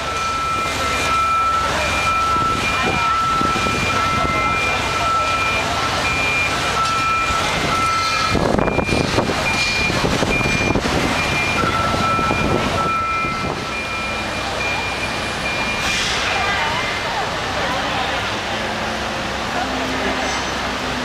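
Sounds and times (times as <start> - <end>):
reversing alarm beeping: 0.0 - 16.9.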